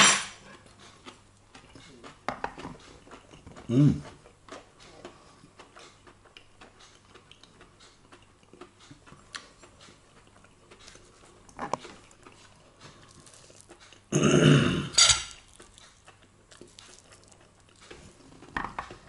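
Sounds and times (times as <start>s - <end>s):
chewing: 0.4s - 14.3s, 14.9s - 19.0s.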